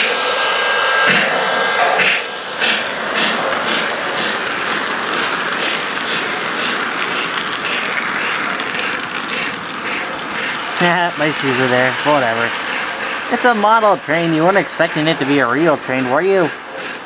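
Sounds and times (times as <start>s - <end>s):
toy train steam chuffing: 0.0s - 17.0s
toy train rolling on track: 2.4s - 17.0s.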